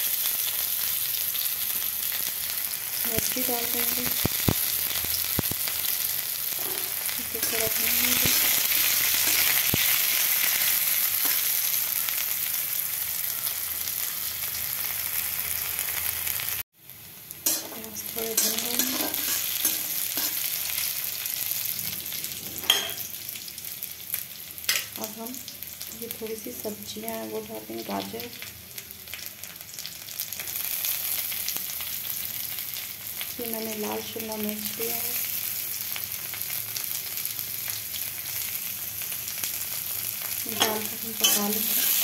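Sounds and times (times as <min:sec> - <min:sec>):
onions sizzling in a pan: 0:00.0 - 0:42.0.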